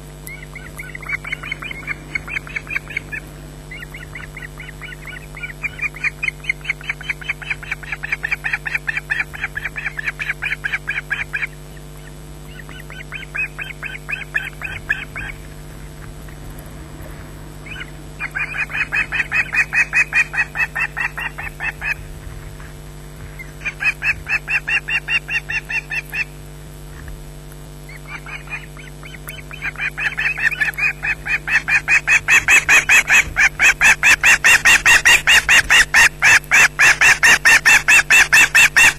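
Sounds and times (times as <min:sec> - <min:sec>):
low hum: 0:00.0 - 0:38.9
ospreys piping calls: 0:00.0 - 0:38.9.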